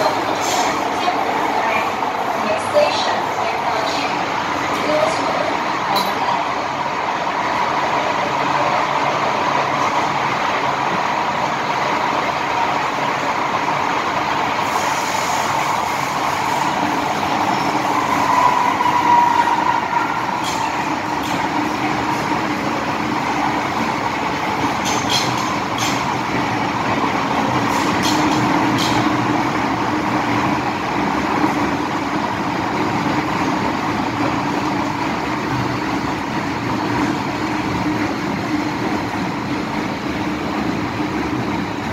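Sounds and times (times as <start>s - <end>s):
train wheels rumbling: 0.0s - 41.9s.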